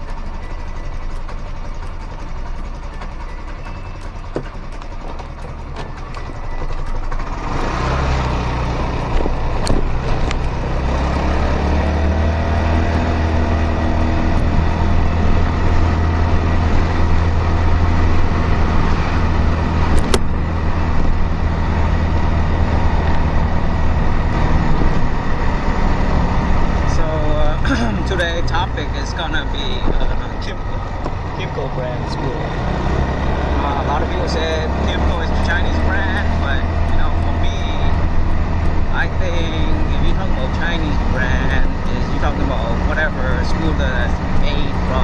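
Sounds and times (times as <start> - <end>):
road and wind noise: 0.0 - 45.0
scooter engine accelerating: 0.0 - 45.0.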